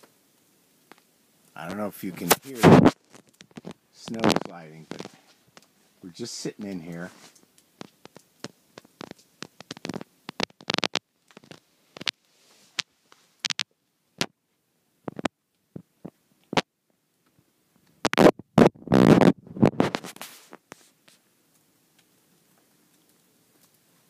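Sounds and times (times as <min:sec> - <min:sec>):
snow ticking on plastic film: 0:00.0 - 0:14.4, 0:15.0 - 0:24.0.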